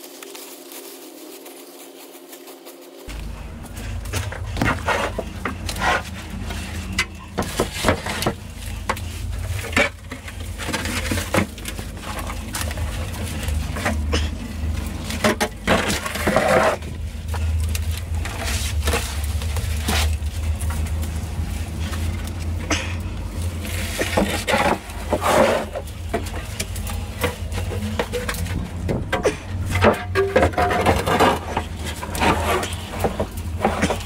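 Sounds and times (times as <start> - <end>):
leaves rustling: 0.0 - 34.0
steady low rumble: 3.0 - 34.0
roofing sheets knocking and scraping: 3.1 - 34.0.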